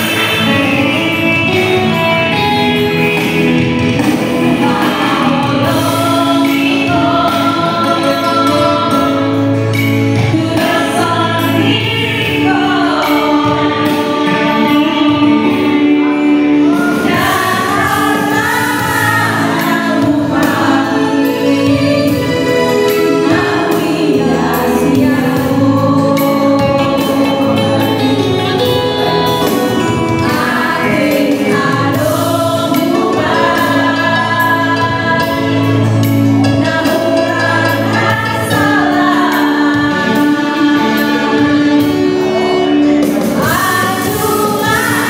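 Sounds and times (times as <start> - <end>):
women singing in harmony: 0.0 - 45.0.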